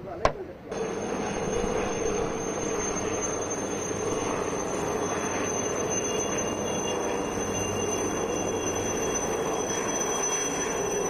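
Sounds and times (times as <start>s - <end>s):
helicopter rotor and turbine: 0.1s - 11.0s
high-pitched whine: 0.7s - 11.0s.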